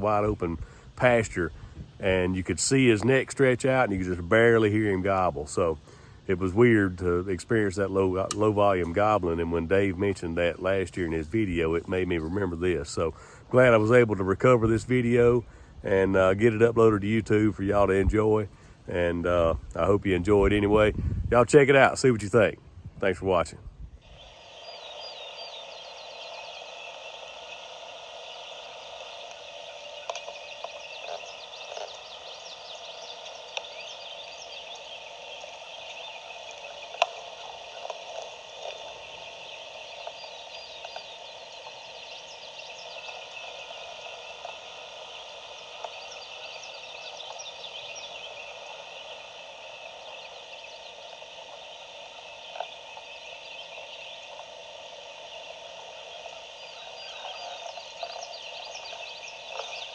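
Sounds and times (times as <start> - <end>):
frog chorus: 0.0 - 22.5, 23.2 - 59.9.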